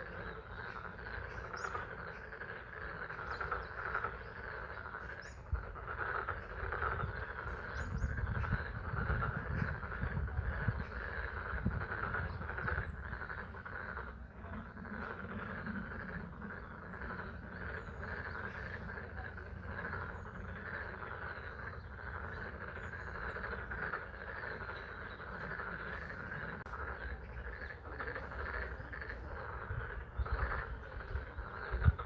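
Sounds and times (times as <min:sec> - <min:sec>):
frogs calling: 0:00.0 - 0:32.0.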